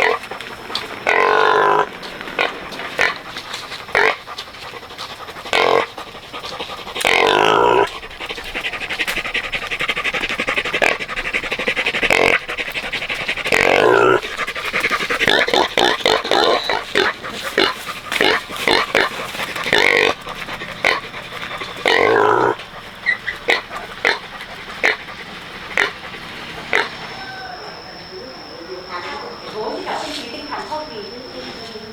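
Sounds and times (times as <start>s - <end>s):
pigs grunting and squealing: 0.0s - 30.0s.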